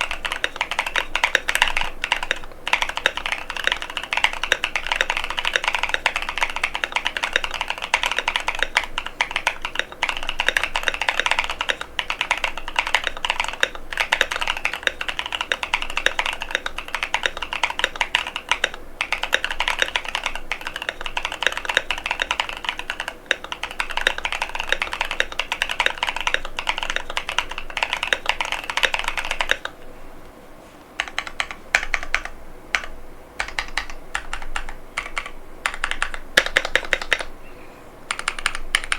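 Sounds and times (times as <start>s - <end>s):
mechanical keyboard typing: 0.0s - 29.8s, 31.0s - 37.3s, 38.1s - 38.9s.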